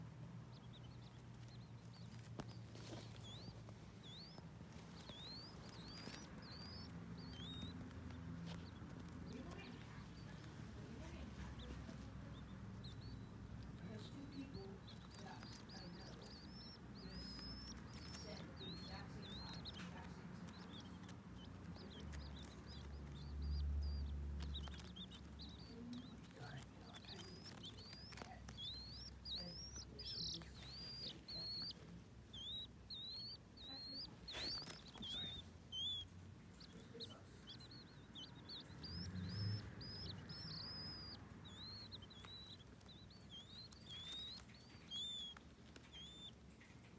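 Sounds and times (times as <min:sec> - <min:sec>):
baby birds peeping: 0:00.0 - 0:46.9
low steady hum: 0:00.0 - 0:46.9.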